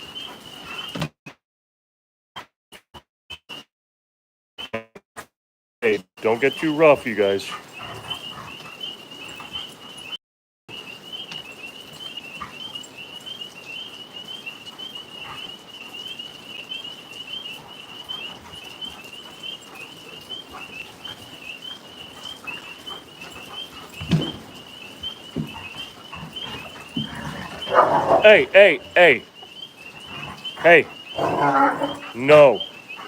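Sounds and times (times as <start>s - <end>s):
tree frogs calling: 6.2s - 33.0s.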